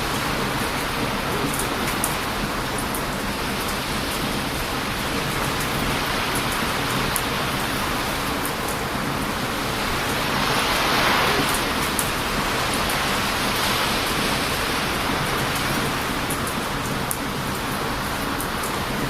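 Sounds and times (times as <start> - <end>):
surf breaking on beach: 0.0 - 19.0.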